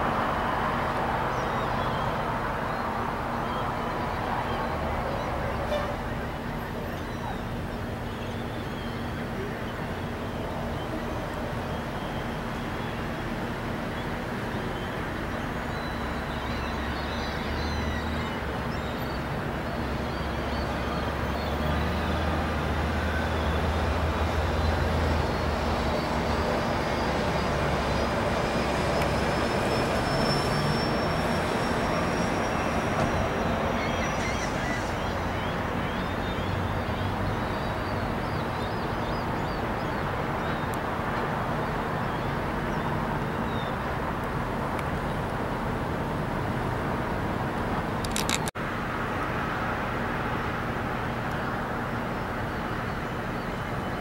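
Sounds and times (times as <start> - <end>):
distant aircraft drone: 0.0 - 54.0.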